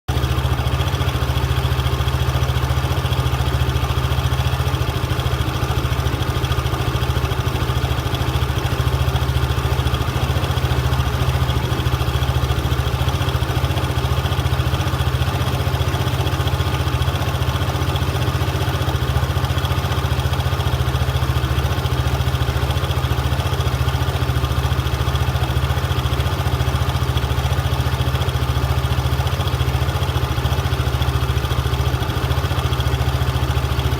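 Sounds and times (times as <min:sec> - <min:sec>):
vehicle engine idling: 0:00.1 - 0:33.9.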